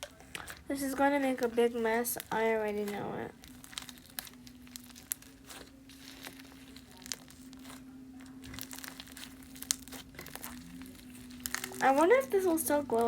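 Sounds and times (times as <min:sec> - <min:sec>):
faint steady hum: 0:00.0 - 0:13.0
hands squishing slime: 0:00.0 - 0:13.0
small crackles and popping clicks: 0:00.0 - 0:13.0.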